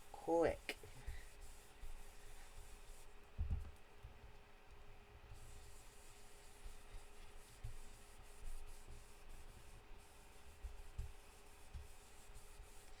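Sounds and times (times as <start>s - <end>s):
brush rubbing on cardstock: 0.1s - 3.3s, 5.3s - 13.0s.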